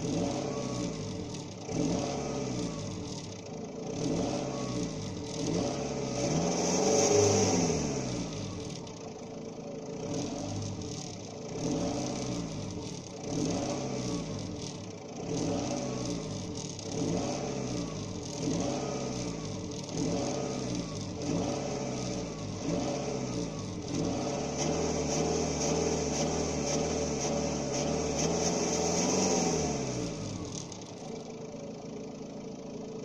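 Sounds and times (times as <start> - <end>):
diesel engine revving and idling: 0.0 - 33.0.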